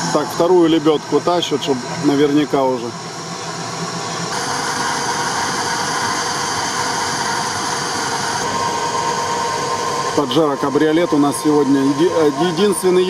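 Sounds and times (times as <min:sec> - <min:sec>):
steady whine: 0:00.0 - 0:13.0.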